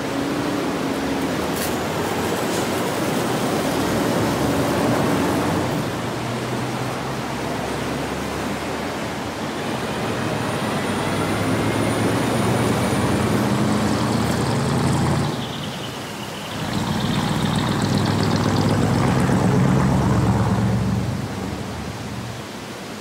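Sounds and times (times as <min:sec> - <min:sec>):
road noise: 0:00.0 - 0:23.0
vehicle engine hum: 0:00.0 - 0:23.0.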